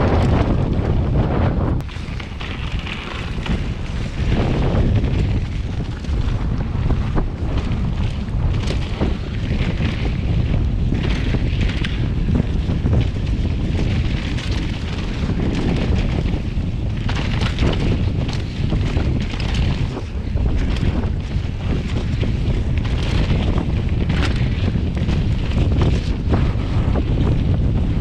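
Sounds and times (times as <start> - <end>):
bike tyre noise on dirt: 0.0 - 28.0
wind buffeting microphone: 0.0 - 28.0
bike clicks and knocks: 1.8 - 27.8.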